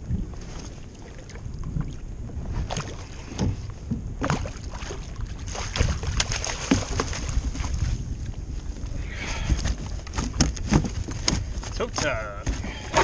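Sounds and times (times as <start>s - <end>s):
water splashing beside a kayak: 0.0s - 13.0s
wind rumbling on microphone: 0.0s - 13.0s.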